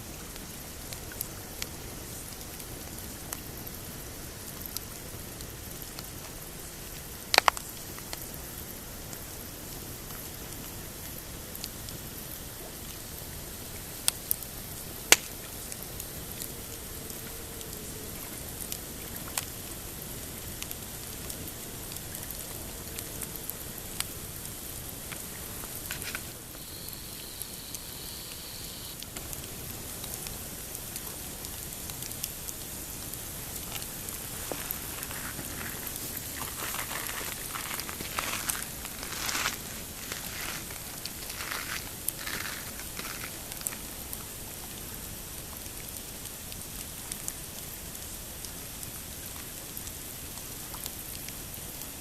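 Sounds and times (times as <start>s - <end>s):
campfire hissing and popping: 0.0s - 52.0s.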